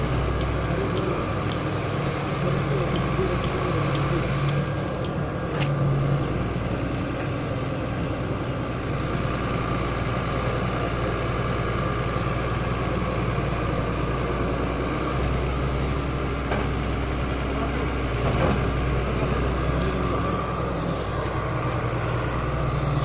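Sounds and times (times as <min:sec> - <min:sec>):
excavator diesel engine drone: 0:00.0 - 0:23.0.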